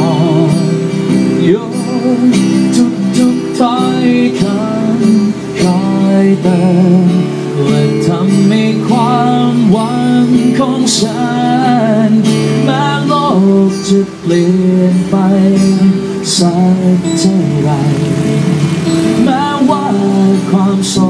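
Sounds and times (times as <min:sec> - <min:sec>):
man singing into microphone: 0:00.0 - 0:21.0
strummed acoustic guitar: 0:00.0 - 0:21.0.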